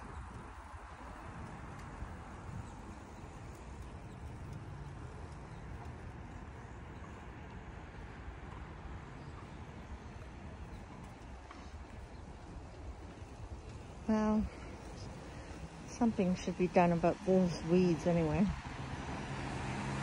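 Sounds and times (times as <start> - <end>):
street noise with low rumble: 0.0 - 20.0.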